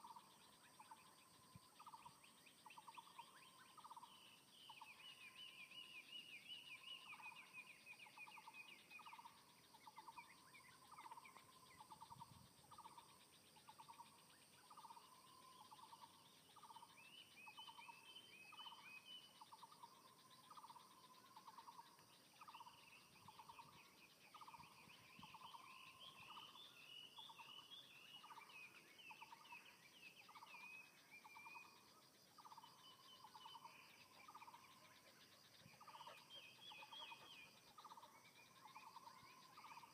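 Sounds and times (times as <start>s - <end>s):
bird pulsed call: 0.0s - 39.9s
birds chirping: 0.0s - 39.9s.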